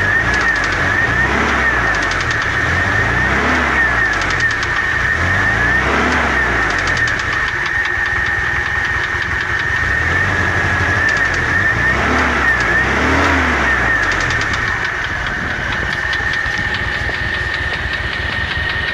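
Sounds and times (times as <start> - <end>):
car engine idling and revving: 0.0 - 18.9
engine knocking: 0.0 - 18.9.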